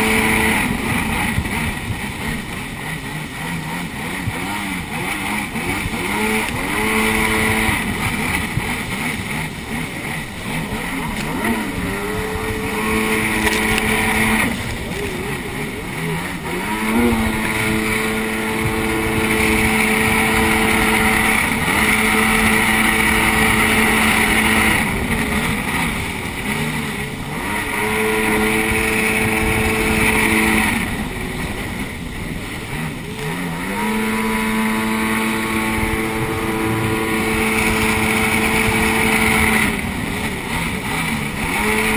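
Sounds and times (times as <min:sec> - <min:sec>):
jet ski engine revving: 0:00.0 - 0:41.9
rushing water and spray: 0:00.0 - 0:41.9.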